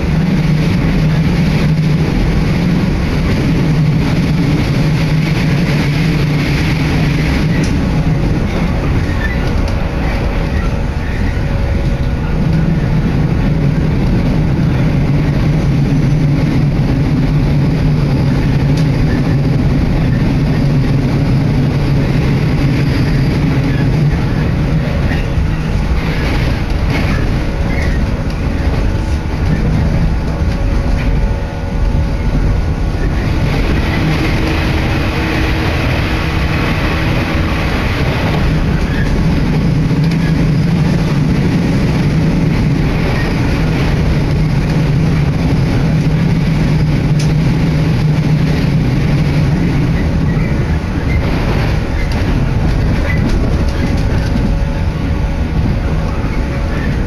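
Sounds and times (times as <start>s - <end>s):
low hum: 0.0s - 57.0s
train wheels rumbling on rails: 0.0s - 57.0s.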